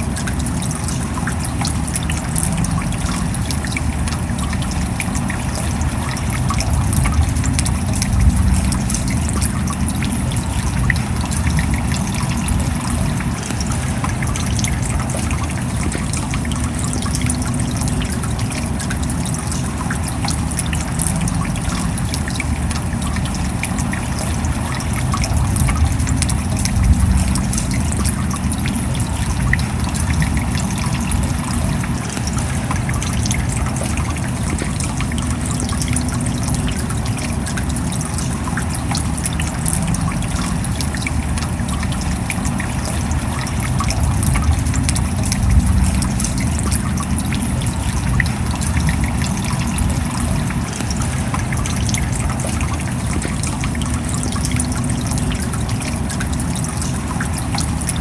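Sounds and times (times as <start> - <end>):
steady rain: 0.0 - 58.0
water trickling and pattering: 0.0 - 58.0.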